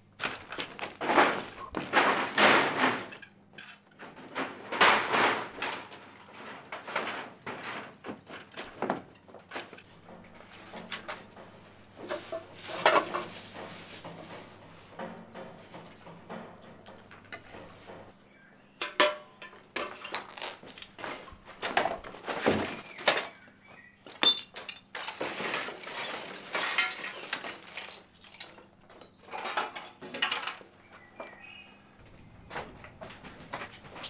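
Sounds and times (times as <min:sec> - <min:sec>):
footsteps through rubble: 0:00.0 - 0:18.1, 0:19.6 - 0:34.0
rubble clattering and clinking: 0:00.1 - 0:18.2, 0:18.8 - 0:23.4, 0:24.0 - 0:30.7.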